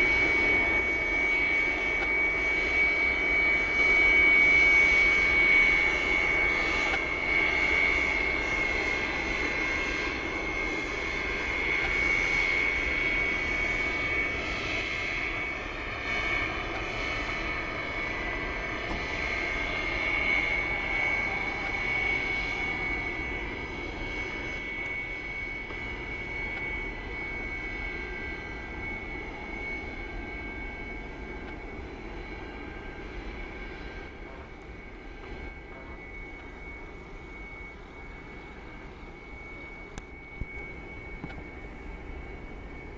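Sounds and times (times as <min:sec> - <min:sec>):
jet engines whining: 0:00.0 - 0:42.9.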